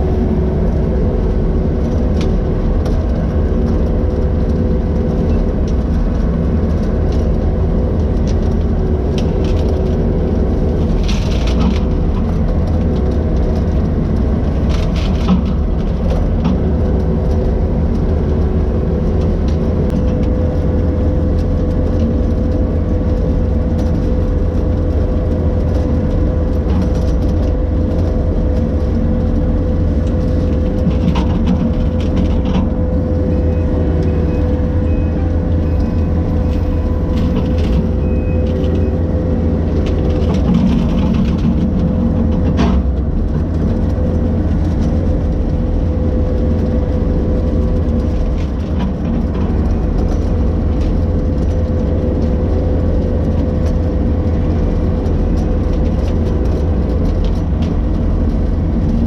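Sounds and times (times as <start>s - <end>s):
engine running under load: 0.0s - 59.0s.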